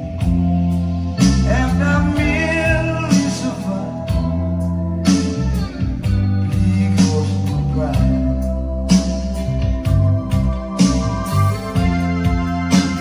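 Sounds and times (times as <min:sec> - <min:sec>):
song with bass and guitar: 0:00.0 - 0:13.0.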